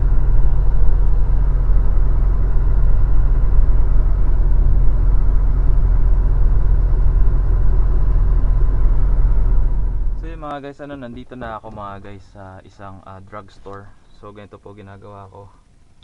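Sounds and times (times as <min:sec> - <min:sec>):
truck engine rumbling: 0:00.0 - 0:13.9.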